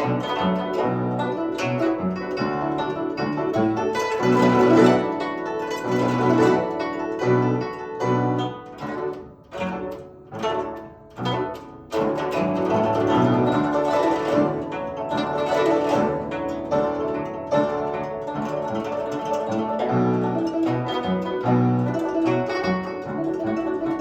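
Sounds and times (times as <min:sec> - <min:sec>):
plucked zither playing: 0:00.0 - 0:24.0.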